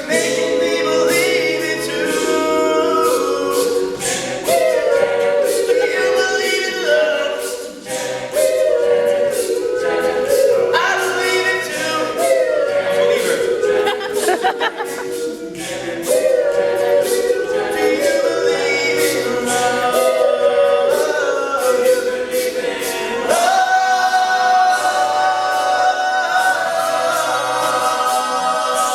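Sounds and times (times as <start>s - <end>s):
male a cappella group singing: 0.0s - 28.9s.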